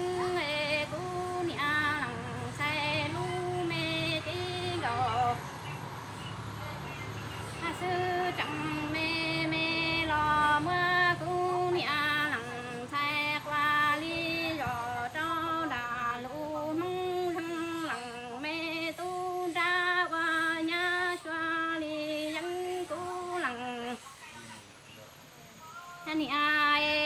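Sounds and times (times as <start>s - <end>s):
woman singing unaccompanied: 0.0s - 24.6s, 25.6s - 27.0s.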